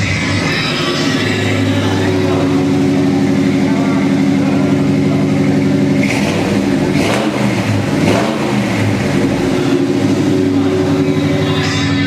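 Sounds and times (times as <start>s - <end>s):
pickup engine revving: 0.0s - 12.0s.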